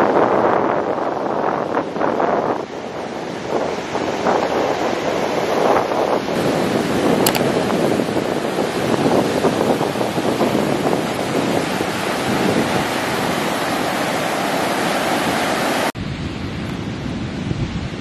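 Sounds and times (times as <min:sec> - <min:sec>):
ocean surf on beach: 0:00.0 - 0:18.0
wind buffeting microphone: 0:00.0 - 0:18.0.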